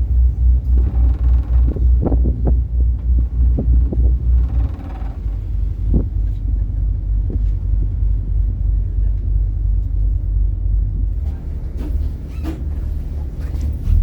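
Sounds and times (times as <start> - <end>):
ferry engine rumbling: 0.0 - 14.0.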